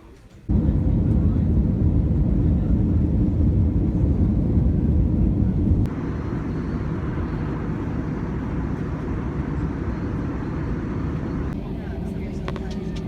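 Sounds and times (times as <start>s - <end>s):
airliner cabin noise: 0.4s - 13.0s.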